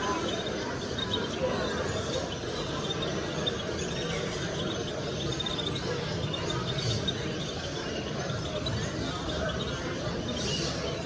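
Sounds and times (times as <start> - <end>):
cage birds chirping and squeaking: 0.0 - 11.0
murmur of visitors chatting: 0.0 - 11.0.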